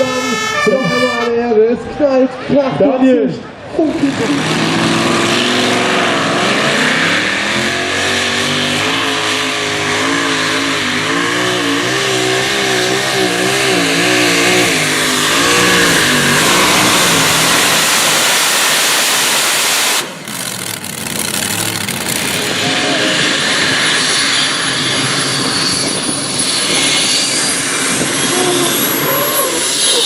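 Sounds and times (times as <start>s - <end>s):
heavy exhaust noise: 0.0s - 30.0s
tractor engine revving hard: 3.8s - 30.0s.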